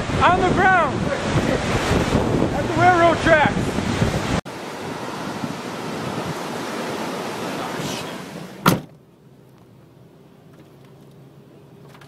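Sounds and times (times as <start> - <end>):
wind and road noise inside car: 0.0 - 12.0.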